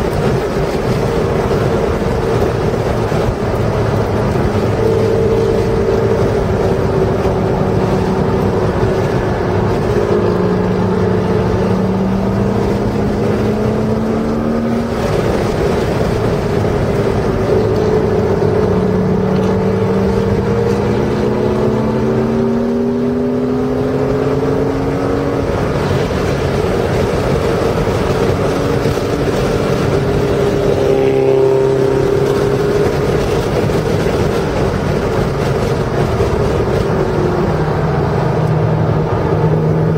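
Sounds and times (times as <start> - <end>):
car engine accelerating: 0.0 - 39.9
tyre and wind noise: 0.0 - 39.9.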